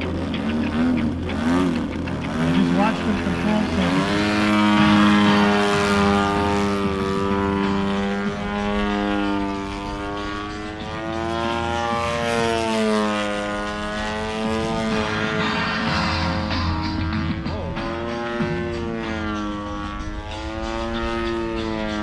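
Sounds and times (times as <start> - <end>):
model plane engine and propeller: 0.0 - 22.0.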